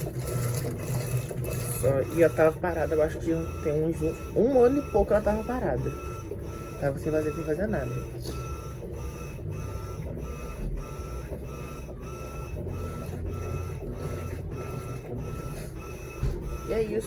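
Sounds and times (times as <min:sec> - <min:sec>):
washing machine agitator humming: 0:00.0 - 0:17.0.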